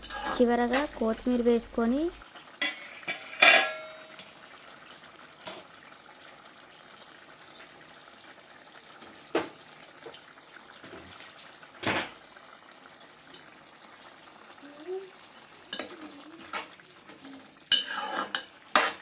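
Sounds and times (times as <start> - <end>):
pot simmering with steady hiss: 0.0 - 19.0.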